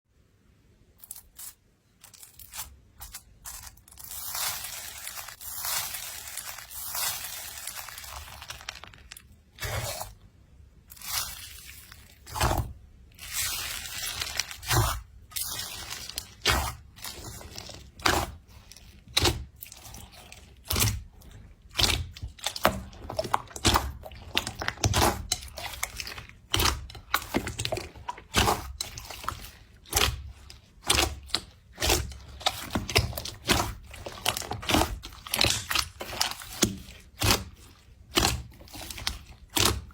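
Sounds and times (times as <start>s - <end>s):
crunchy material being crushed: 1.0s - 10.2s, 10.9s - 39.9s.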